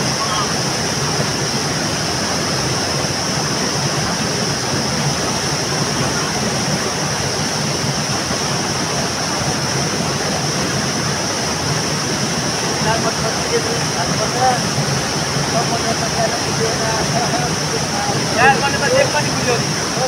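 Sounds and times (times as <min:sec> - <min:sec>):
rushing stream water: 0:00.0 - 0:20.0.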